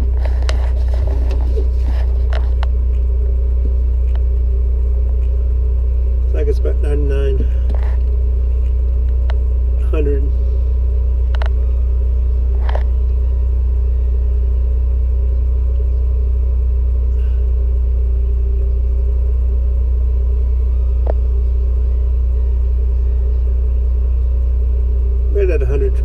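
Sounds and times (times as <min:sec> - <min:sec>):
loud low hum: 0:00.0 - 0:26.0.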